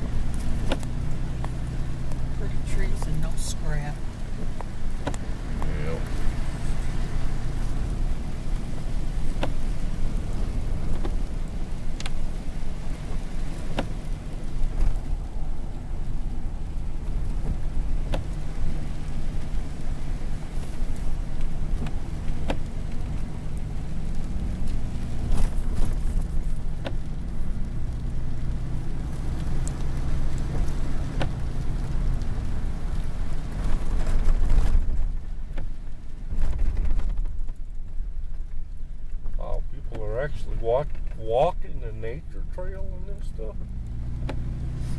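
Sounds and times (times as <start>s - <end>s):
road noise in rain: 0.0s - 44.9s
vehicle engine drone: 0.0s - 44.9s.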